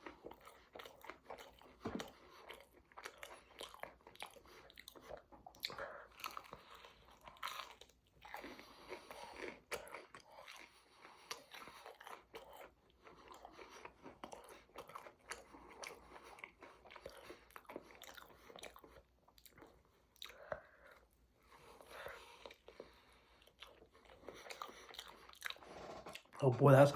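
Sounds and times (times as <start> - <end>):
person chewing food: 0.0 - 26.8.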